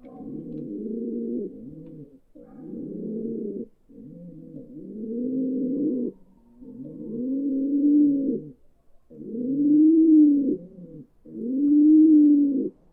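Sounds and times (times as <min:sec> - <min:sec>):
pigeons cooing: 0:00.0 - 0:12.9.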